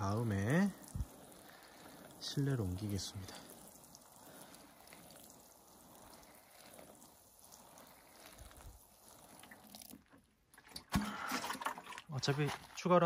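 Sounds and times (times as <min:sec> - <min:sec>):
water sprinkling from watering can: 0:00.0 - 0:10.8, 0:11.4 - 0:13.0.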